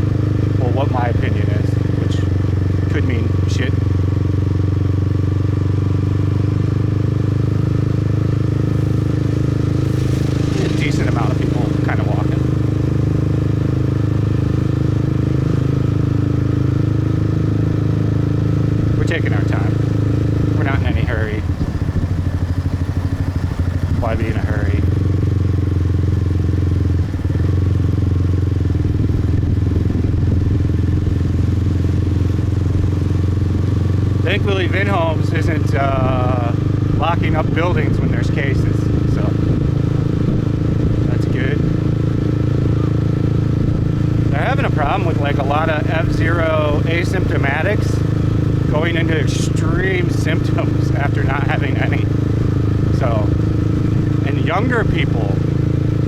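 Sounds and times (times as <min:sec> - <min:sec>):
motorbike engine cruising: 0:00.0 - 0:56.0.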